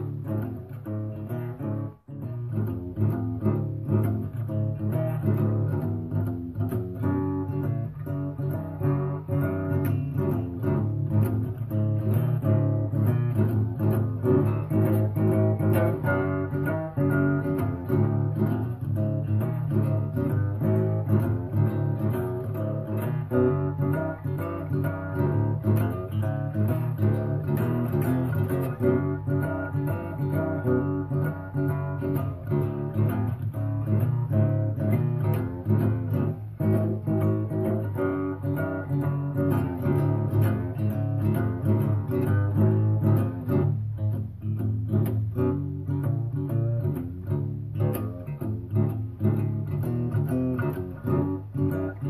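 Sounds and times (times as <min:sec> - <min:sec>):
guitar background music: 0:00.0 - 0:52.0.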